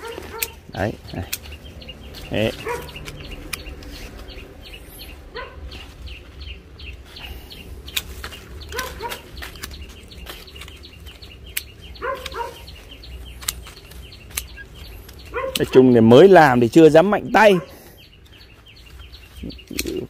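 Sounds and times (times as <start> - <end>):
pruning shears snipping: 0.0 - 6.0, 6.9 - 17.6, 18.2 - 20.0
birds calling: 0.0 - 20.0.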